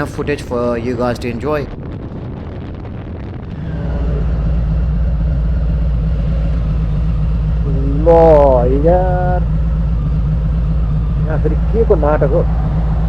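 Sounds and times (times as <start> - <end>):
motorcycle engine running: 1.8 - 13.0.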